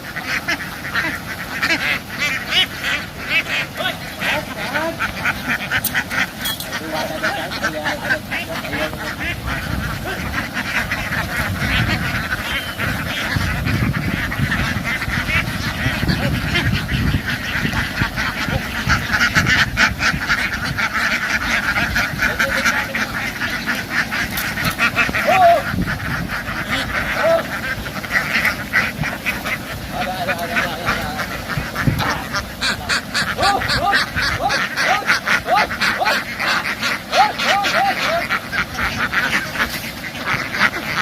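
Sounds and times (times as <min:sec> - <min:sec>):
ducks quacking: 0:00.0 - 0:41.0.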